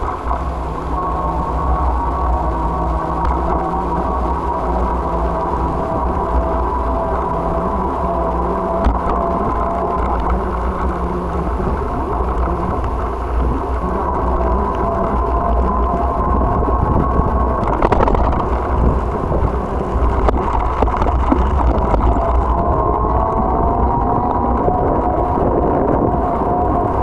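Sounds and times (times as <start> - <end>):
wind and road noise rumble: 0.0 - 27.0.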